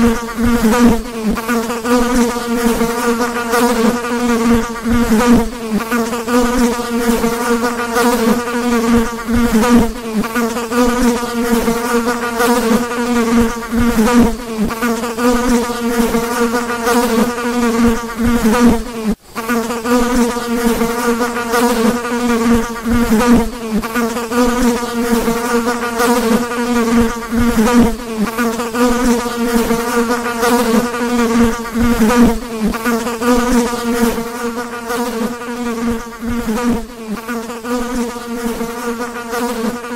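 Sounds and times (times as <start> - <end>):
fly wings buzzing: 0.0 - 39.9.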